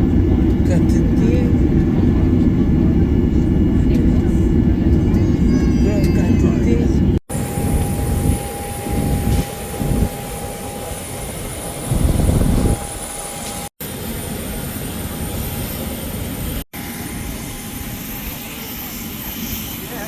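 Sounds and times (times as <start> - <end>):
jet engine whine: 0.0 - 20.0.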